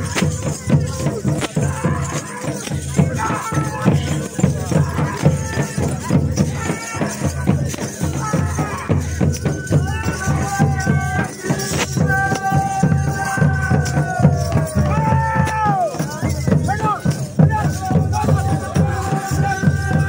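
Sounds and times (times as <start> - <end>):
barrel drums beating a rhythm: 0.0 - 20.0.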